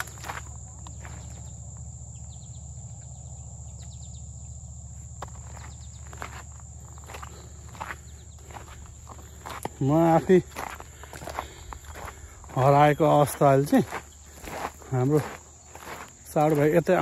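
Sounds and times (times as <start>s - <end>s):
insect chirring: 0.0s - 17.0s.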